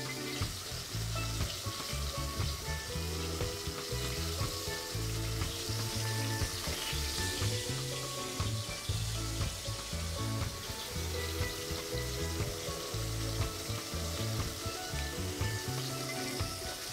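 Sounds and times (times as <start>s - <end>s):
background music: 0.0s - 16.9s
fish sizzling in hot oil: 0.0s - 16.9s.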